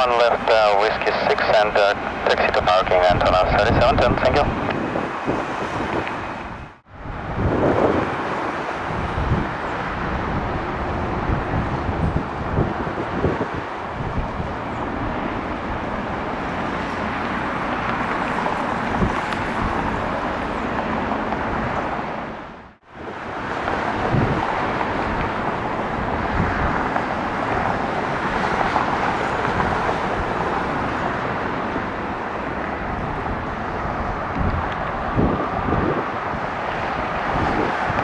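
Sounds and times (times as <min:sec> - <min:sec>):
jet engines rushing: 0:00.0 - 0:38.0
wind buffeting microphone: 0:00.0 - 0:38.0.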